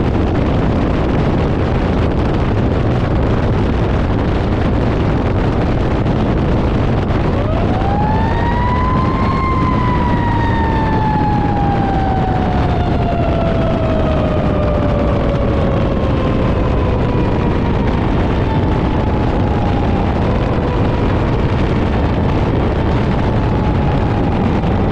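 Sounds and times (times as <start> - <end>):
truck and road rumble: 0.0 - 24.9.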